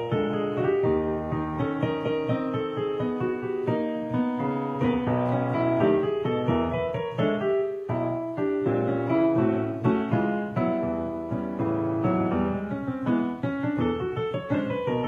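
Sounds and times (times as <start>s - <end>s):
blues on digital piano: 0.0s - 15.0s.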